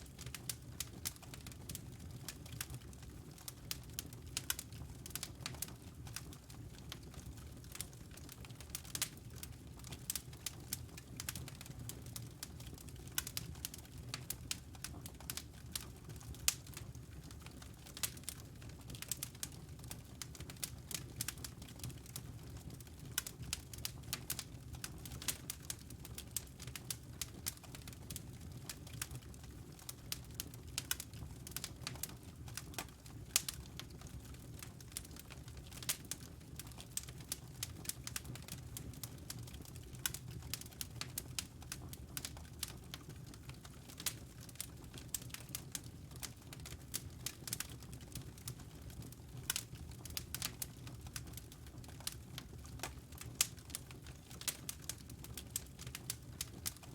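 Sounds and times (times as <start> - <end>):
logs crackling and popping: 0.1 - 56.9.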